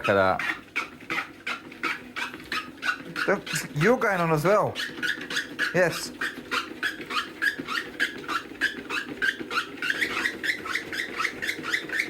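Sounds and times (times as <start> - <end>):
treadmill motor hum: 0.0 - 12.0.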